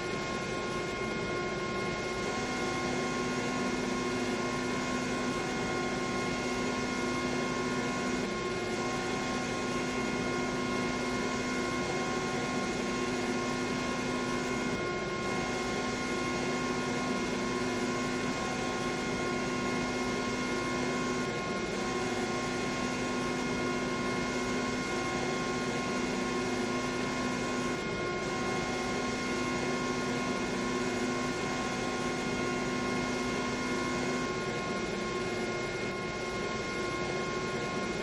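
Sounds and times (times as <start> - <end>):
milling machine hum and hiss: 0.0 - 38.0.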